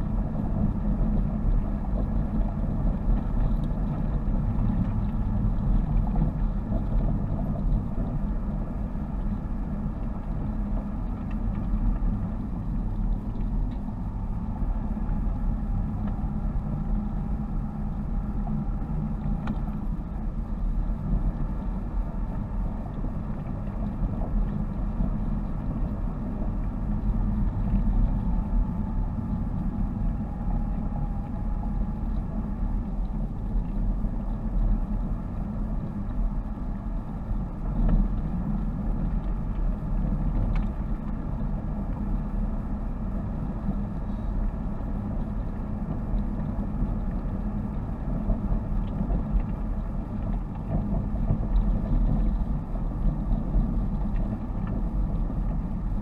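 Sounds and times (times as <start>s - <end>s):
engine and tyre rumble: 0.0s - 56.0s.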